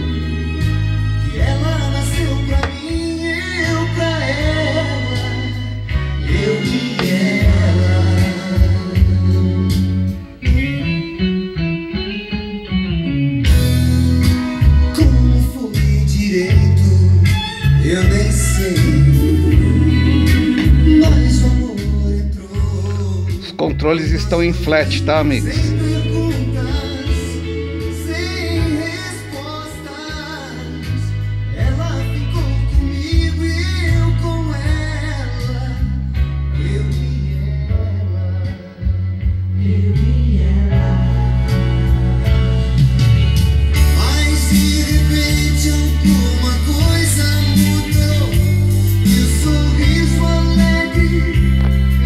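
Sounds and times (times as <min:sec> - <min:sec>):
recorded music through speakers: 0:00.0 - 0:52.0
song over loudspeakers: 0:00.0 - 0:52.0.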